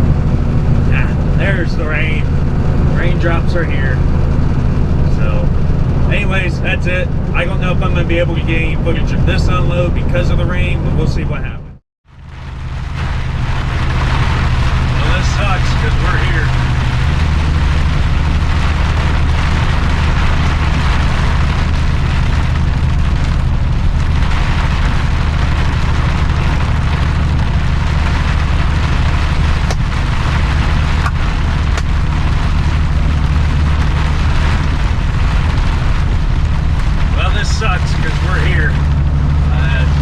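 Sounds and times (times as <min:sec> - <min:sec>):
heavy rain pounding on truck cab: 0:00.0 - 0:10.2, 0:12.0 - 0:40.0
truck engine running: 0:00.0 - 0:40.0.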